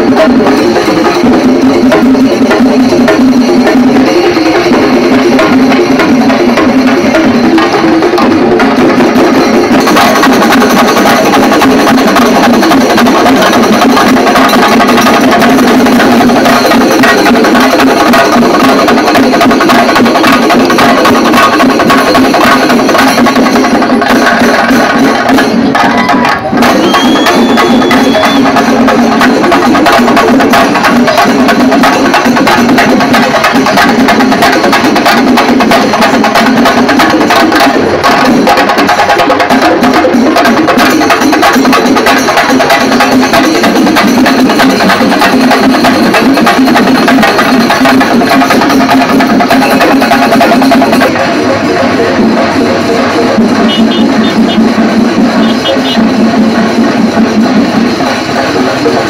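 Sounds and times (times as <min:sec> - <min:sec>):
drums beaten with sticks: 0:00.0 - 0:59.0.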